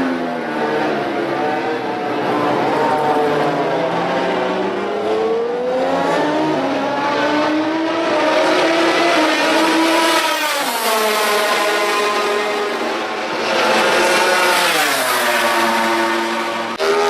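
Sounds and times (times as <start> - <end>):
racing motorcycle engines revving: 0.0 - 17.0.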